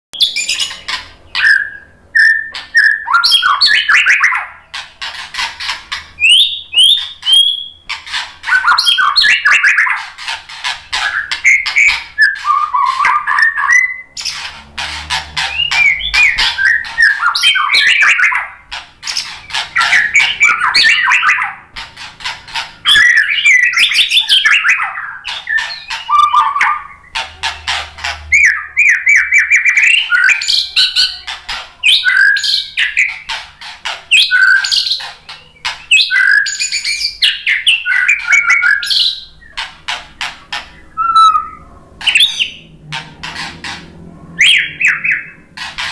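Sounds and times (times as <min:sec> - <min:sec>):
bird singing: 0:00.1 - 0:45.9.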